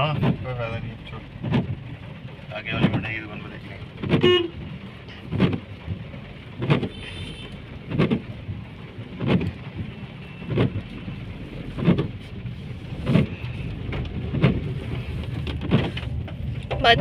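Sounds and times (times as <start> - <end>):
car and rain noise inside cabin: 0.0 - 17.0
windscreen wipers sweeping: 0.0 - 17.0.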